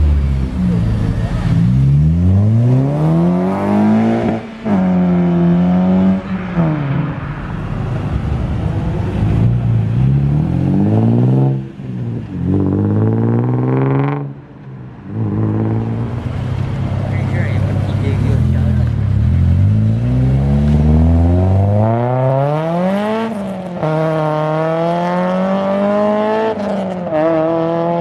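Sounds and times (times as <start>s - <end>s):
car engines accelerating hard: 0.0s - 28.0s.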